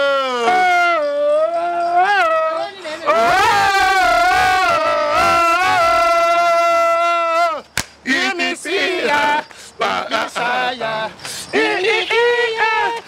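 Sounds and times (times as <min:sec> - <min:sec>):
men singing a cappella: 0:00.0 - 0:13.0.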